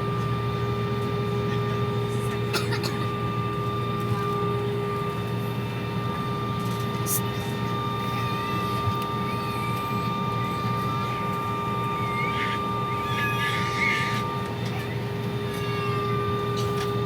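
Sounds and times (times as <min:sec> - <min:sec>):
jet engine cabin drone: 0:00.0 - 0:17.0
whine: 0:03.3 - 0:17.0.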